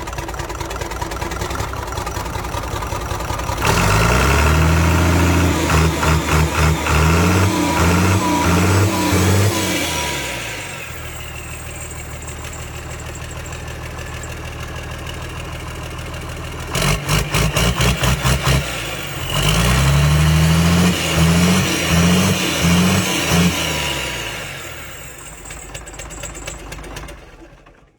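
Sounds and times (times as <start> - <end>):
diesel engine revving: 1.4 - 26.1.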